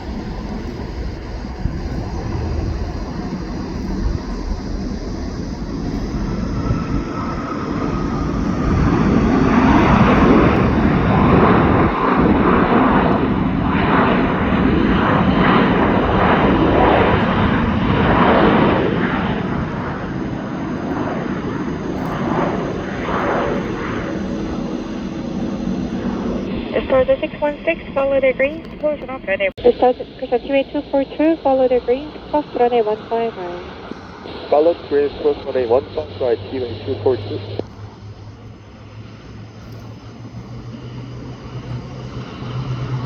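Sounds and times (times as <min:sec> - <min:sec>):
jet airliner engines rumbling: 0:00.0 - 0:43.0.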